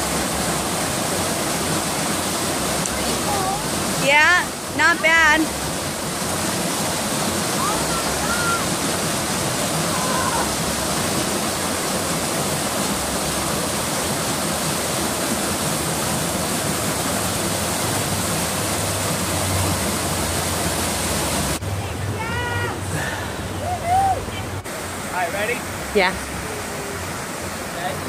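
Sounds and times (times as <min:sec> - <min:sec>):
rushing white-water cascade: 0:00.0 - 0:28.0.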